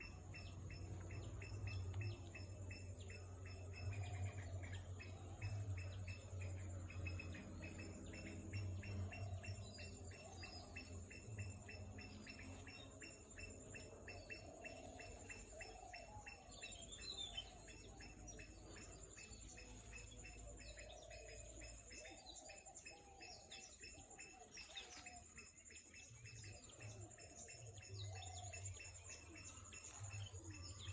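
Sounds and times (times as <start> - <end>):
bird chirping: 0.0 - 30.9.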